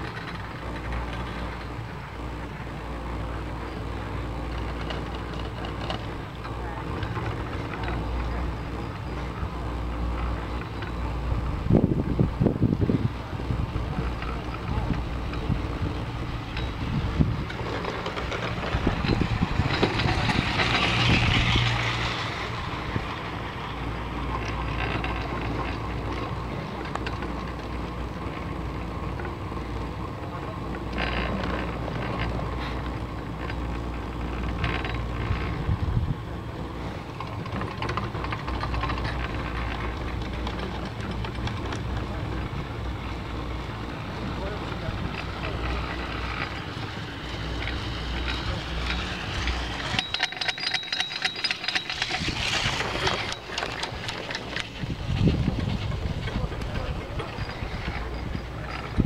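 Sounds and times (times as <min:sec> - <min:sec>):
chair grip clattering through rollers: 0:00.0 - 0:59.0
chairlift haul rope rumble: 0:00.0 - 0:59.0
scattered clicks and knocks: 0:00.0 - 0:59.0.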